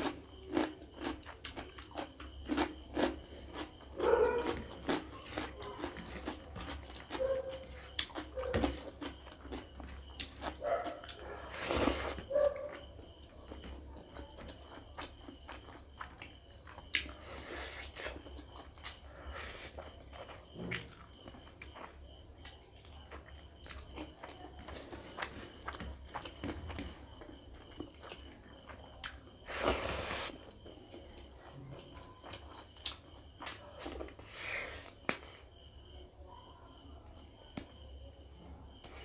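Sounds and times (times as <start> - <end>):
man chewing: 0.0 - 12.9, 14.4 - 35.4.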